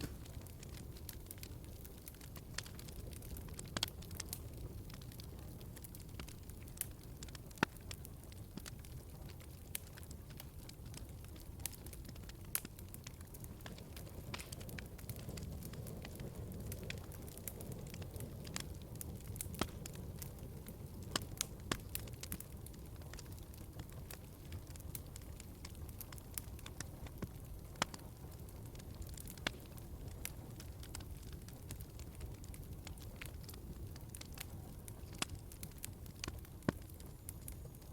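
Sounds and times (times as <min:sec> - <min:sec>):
low rumble of flames: 0:00.0 - 0:37.9
wood fire crackling and popping: 0:00.0 - 0:37.9.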